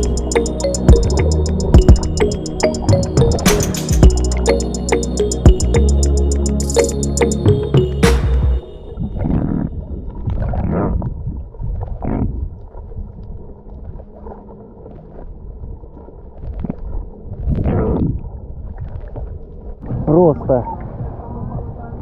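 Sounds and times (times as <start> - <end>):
muffled water sloshing: 0.0 - 22.0.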